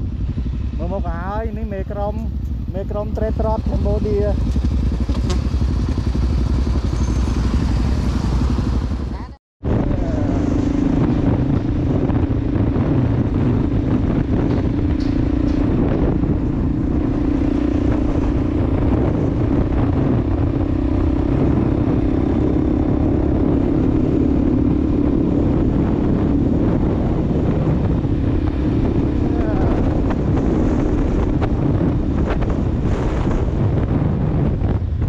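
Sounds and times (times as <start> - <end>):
dirt bike engine running: 0.0 - 35.0
wind rumbling on microphone: 0.0 - 35.0.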